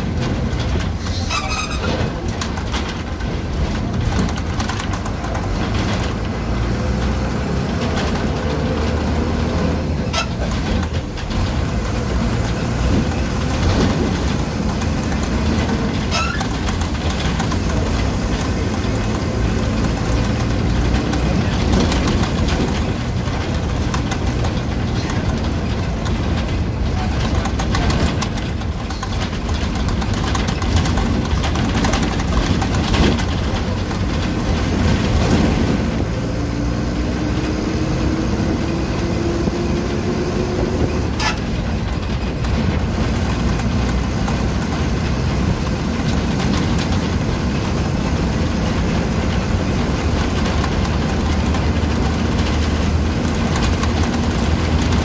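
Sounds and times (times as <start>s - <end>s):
bus body rattling: 0.0s - 55.0s
bus engine and road noise: 0.0s - 55.0s.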